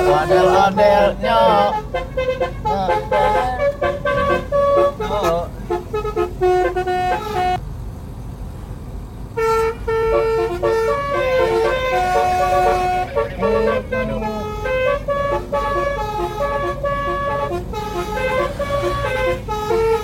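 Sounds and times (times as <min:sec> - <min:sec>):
multi-tone car horn tune: 0:00.0 - 0:07.6, 0:09.4 - 0:20.0.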